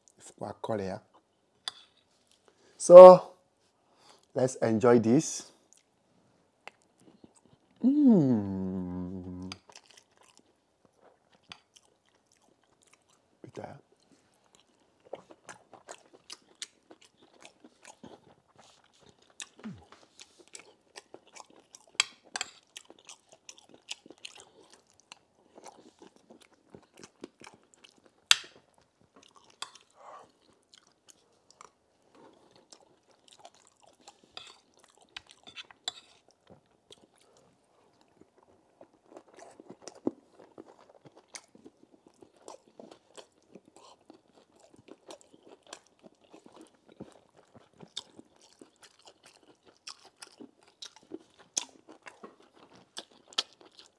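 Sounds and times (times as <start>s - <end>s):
person chewing food: 6.6s - 7.8s, 8.6s - 53.9s.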